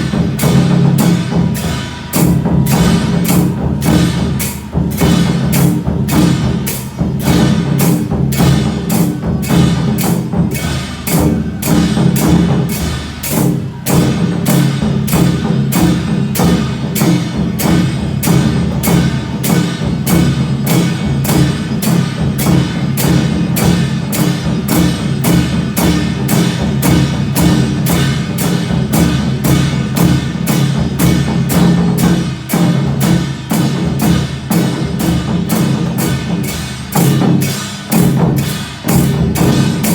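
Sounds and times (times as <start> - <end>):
percussion struck in steady rhythm: 0.0 - 39.9.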